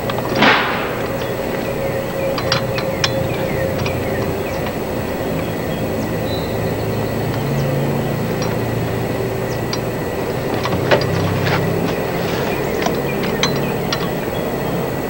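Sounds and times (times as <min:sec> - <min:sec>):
hand tools clinking on metal: 0:00.0 - 0:15.0
steady low rumble: 0:00.0 - 0:15.0.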